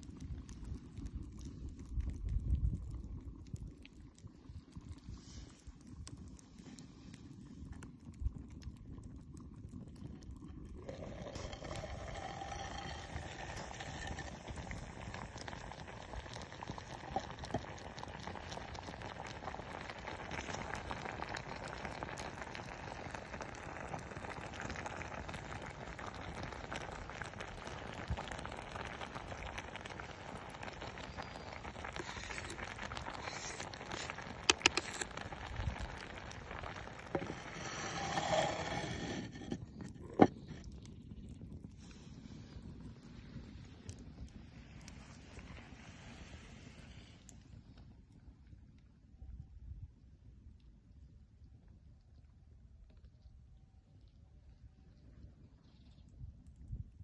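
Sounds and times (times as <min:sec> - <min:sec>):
wood fire crackling and hissing: 0:00.0 - 0:48.6.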